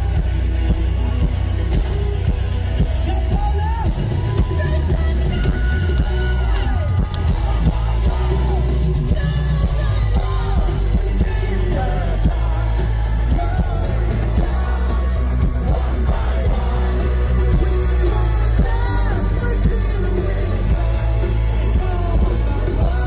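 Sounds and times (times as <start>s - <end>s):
live hard rock band: 0.0s - 23.0s
man singing: 0.0s - 23.0s.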